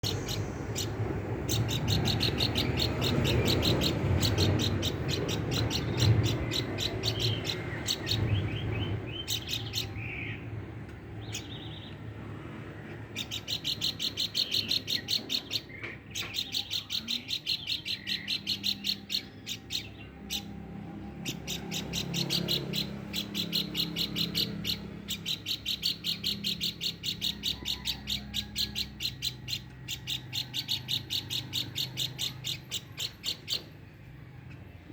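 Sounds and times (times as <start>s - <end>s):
bird calling in high chirps: 0.0s - 10.4s, 13.1s - 33.9s.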